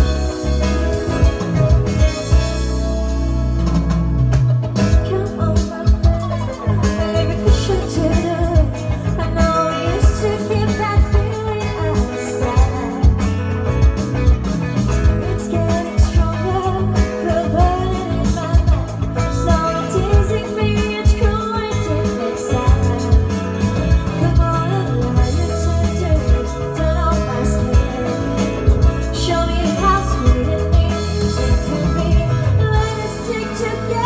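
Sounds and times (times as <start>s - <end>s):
live band playing: 0.0s - 34.0s
woman singing lead: 4.7s - 34.0s.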